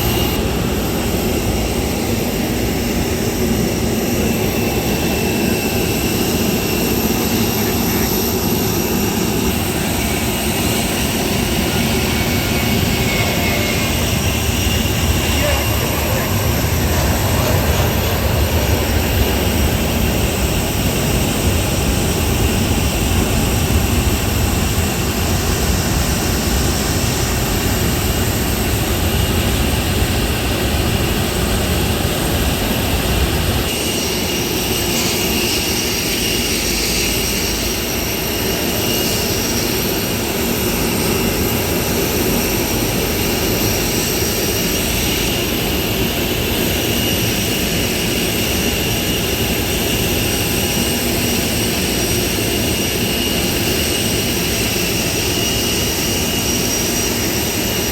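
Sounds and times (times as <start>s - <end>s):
jet engine whine and rush: 0.0s - 57.9s.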